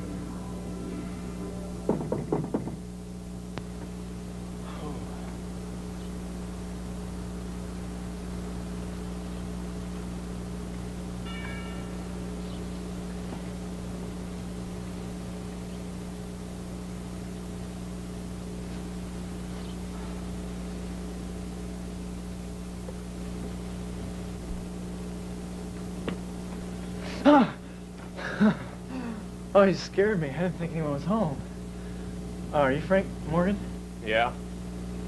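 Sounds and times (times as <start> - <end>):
film soundtrack hum and hiss: 0.0 - 35.0.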